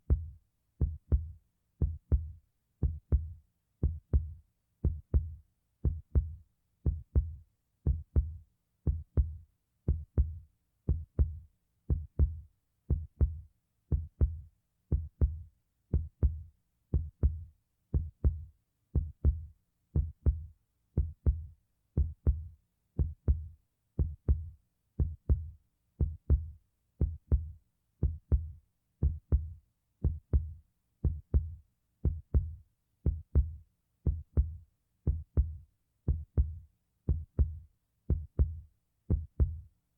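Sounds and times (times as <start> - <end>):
heartbeat: 0.0 - 39.7.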